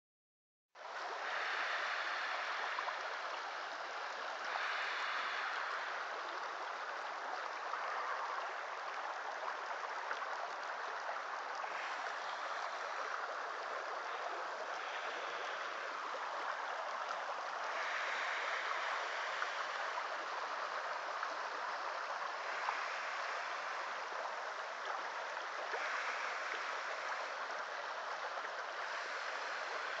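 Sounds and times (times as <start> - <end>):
creek water running over rocks: 0.8 - 30.0.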